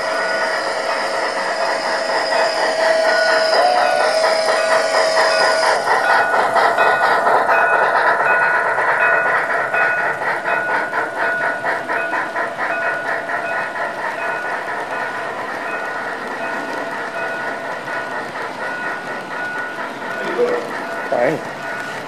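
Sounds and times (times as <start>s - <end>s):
model train cars rolling: 0.0s - 22.0s
steam locomotive chuffing: 0.0s - 22.0s.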